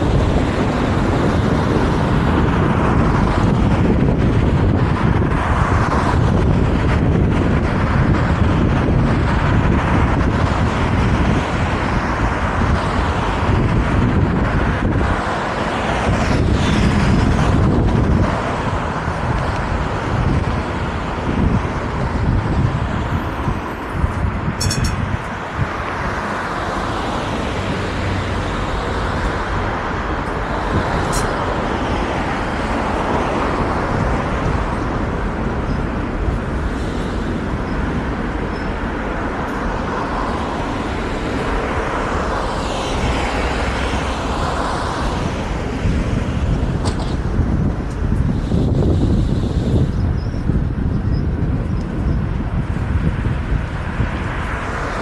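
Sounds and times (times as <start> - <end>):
tram rolling along track: 0.0 - 55.0.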